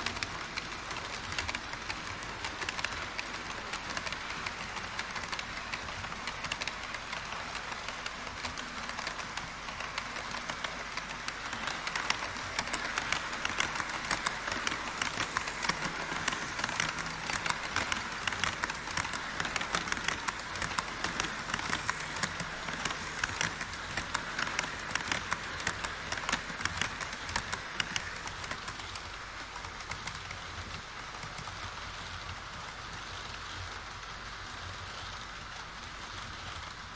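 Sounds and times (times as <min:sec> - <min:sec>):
model train rattling on track: 0:00.0 - 0:36.9.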